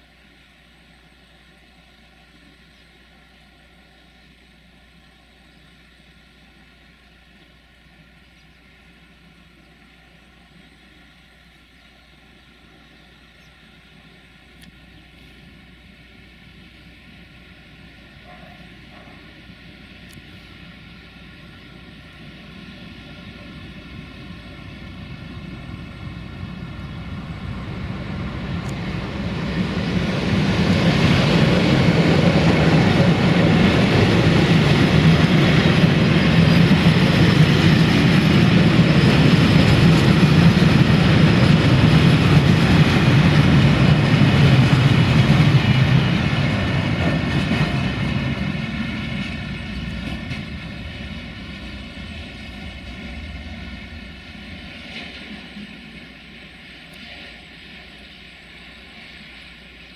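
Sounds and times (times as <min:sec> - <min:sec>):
diesel locomotive engine: 0:00.0 - 0:59.9
train wheels rolling on rails: 0:00.0 - 0:59.9.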